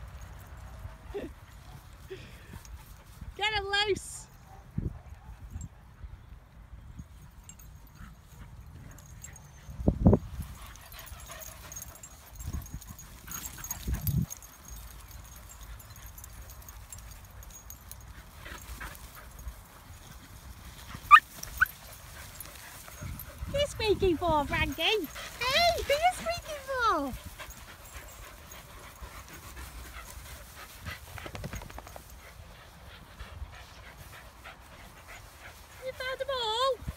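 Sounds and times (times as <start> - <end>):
dogs thumping and scuffling on grass: 0.0 - 36.9.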